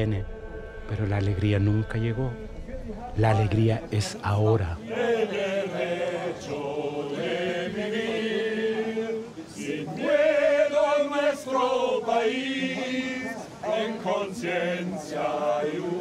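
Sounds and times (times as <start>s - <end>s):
men singing chant in unison: 0.0s - 16.0s.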